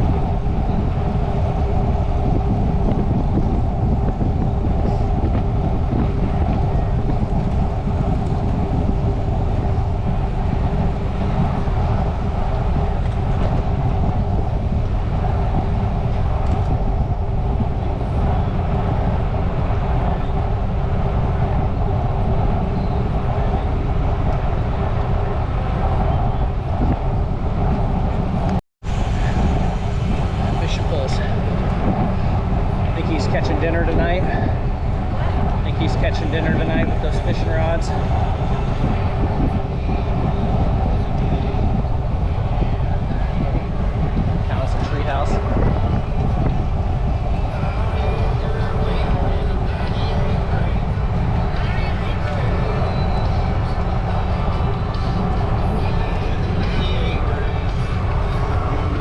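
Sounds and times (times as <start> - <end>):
bicycle road noise: 0.0 - 59.0
even hum: 0.0 - 59.0
wind on microphone: 0.0 - 59.0.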